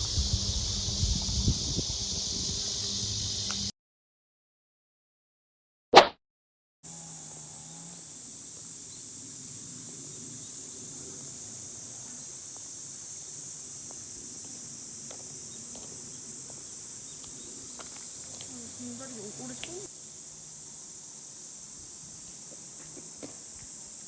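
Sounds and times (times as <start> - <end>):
insects chorus: 0.0 - 3.7, 6.9 - 24.0.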